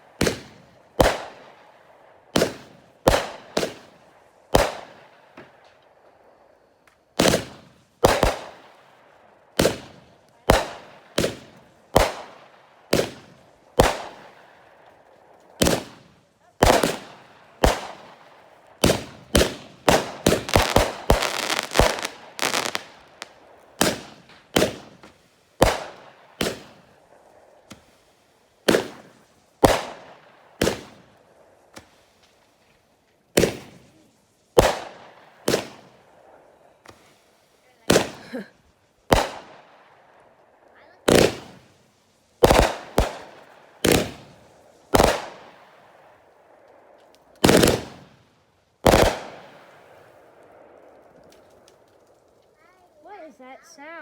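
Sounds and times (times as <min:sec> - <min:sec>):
fireworks banging: 0:00.0 - 0:01.7, 0:02.3 - 0:05.8, 0:06.8 - 0:08.8, 0:09.5 - 0:32.4, 0:33.3 - 0:39.9, 0:40.7 - 0:48.2, 0:48.8 - 0:54.0
fireworks rapid cracking: 0:00.0 - 0:54.0.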